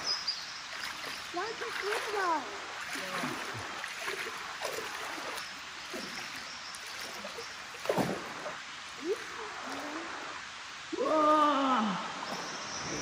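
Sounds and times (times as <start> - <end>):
water swishing around legs: 0.0 - 10.5.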